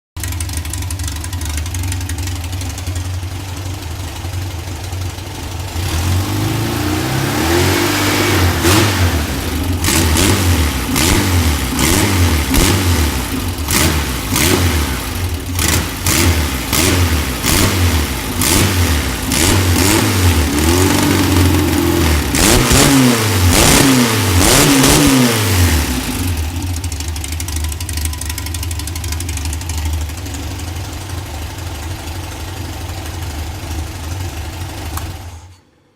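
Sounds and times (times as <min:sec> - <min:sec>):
engine idling and revving: 0:00.2 - 0:35.6.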